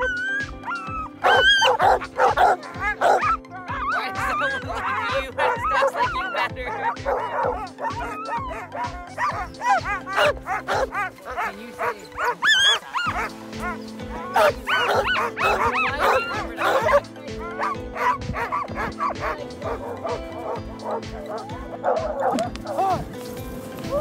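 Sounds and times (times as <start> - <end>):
background music with steady beat: 0.0 - 24.0
sled dogs yipping and barking: 0.0 - 24.0.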